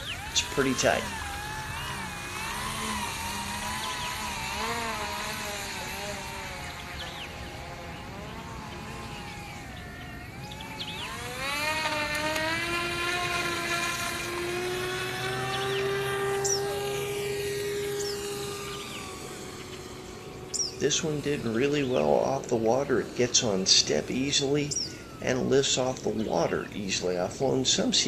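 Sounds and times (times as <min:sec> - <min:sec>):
model seaplane motors and propellers: 0:00.0 - 0:28.0.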